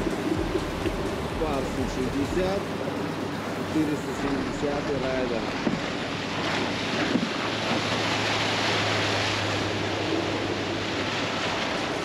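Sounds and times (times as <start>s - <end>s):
low motor drone: 0.0s - 12.0s
rushing splashing water: 0.0s - 12.0s.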